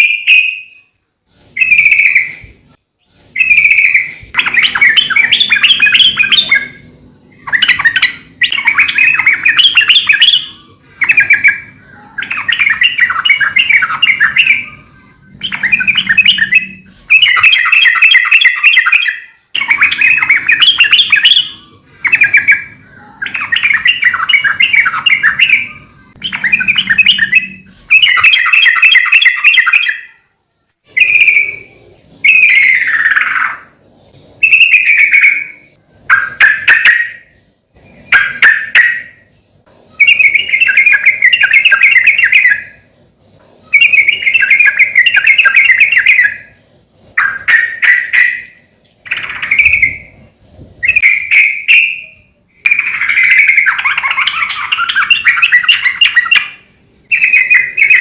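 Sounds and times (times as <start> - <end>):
bird singing bubbling phrases: 0.0 - 30.2, 30.9 - 42.9, 43.6 - 58.0.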